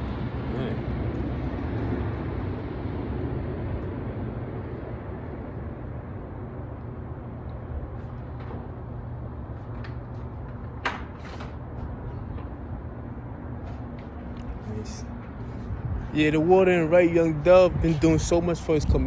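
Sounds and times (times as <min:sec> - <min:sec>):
faint hum: 0:00.0 - 0:19.0
low background rumble: 0:00.0 - 0:19.0.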